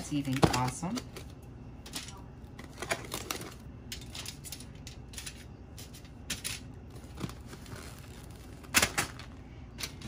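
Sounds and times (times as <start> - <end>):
foil crinkling and tapping: 0.0 - 10.0.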